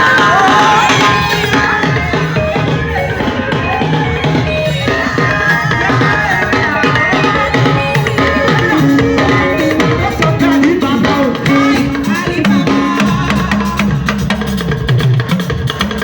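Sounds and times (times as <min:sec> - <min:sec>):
drums and percussion beat: 0:00.0 - 0:16.0
live band music: 0:00.0 - 0:16.0.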